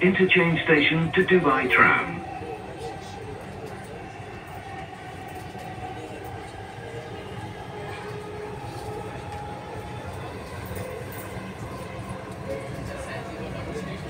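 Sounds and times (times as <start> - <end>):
train rumbling inside car: 0.0 - 14.0.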